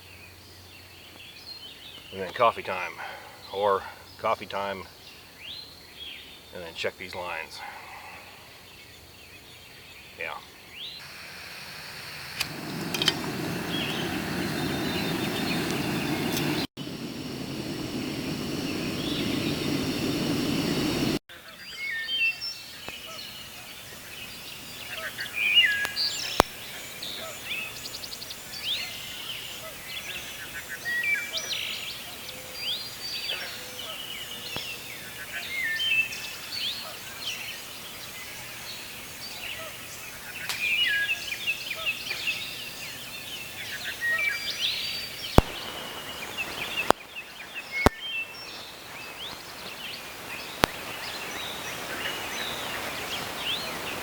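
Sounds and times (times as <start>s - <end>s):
birds singing and chirping: 0.0s - 11.1s, 11.7s - 16.7s, 17.7s - 54.0s
steady rushing hiss: 6.6s - 8.9s, 11.0s - 21.6s, 22.4s - 54.0s.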